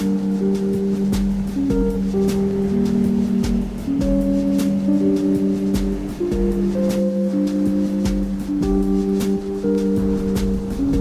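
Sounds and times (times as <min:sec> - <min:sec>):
music with held notes: 0:00.0 - 0:11.0
steady drum beat: 0:00.0 - 0:11.0.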